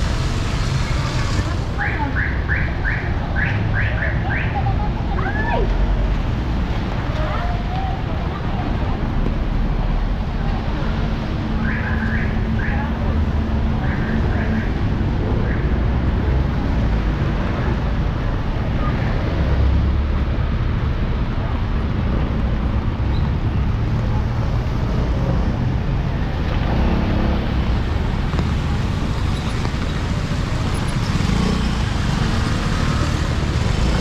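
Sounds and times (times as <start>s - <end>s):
low traffic rumble: 0.0s - 34.0s
vehicles passing: 0.0s - 34.0s.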